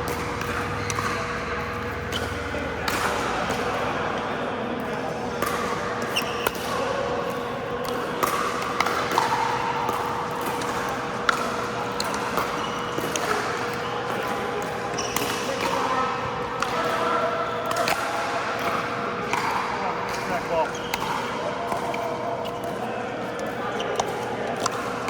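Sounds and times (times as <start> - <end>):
murmur of voices: 0.0 - 25.0.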